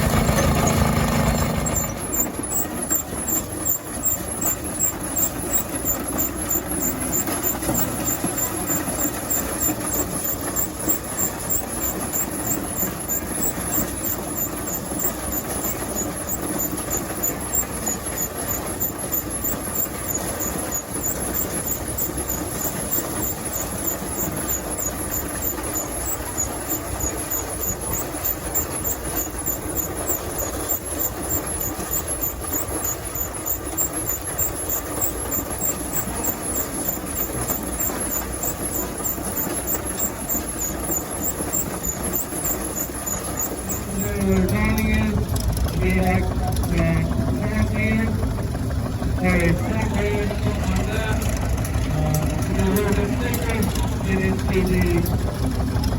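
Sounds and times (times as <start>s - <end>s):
machine running with fast ticking: 0.0s - 55.9s.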